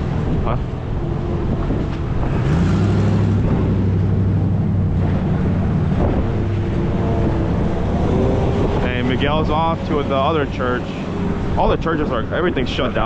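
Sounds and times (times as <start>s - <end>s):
snowplow engine revving: 0.0s - 13.0s.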